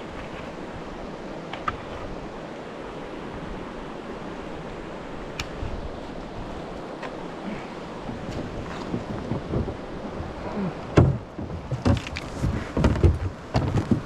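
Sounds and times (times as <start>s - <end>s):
rushing creek water: 0.0s - 14.0s.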